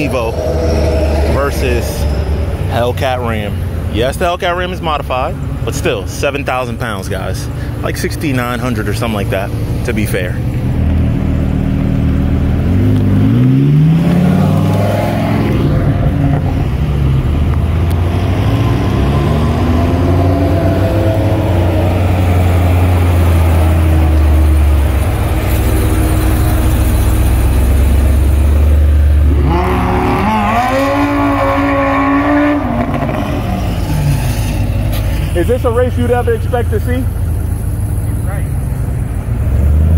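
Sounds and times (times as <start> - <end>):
car engines idling and revving: 0.0 - 39.9.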